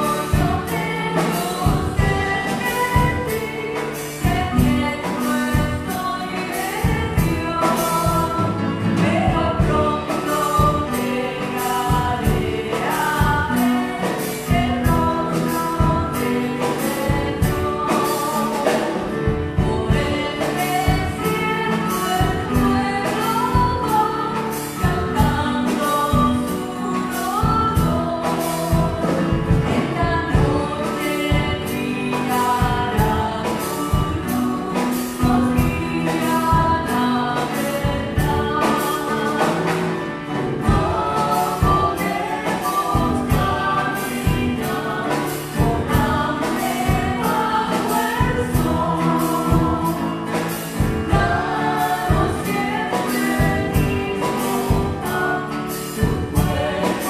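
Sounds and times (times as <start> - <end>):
instrumental accompaniment with beat: 0.0 - 57.0
women singing a hymn: 0.0 - 57.0.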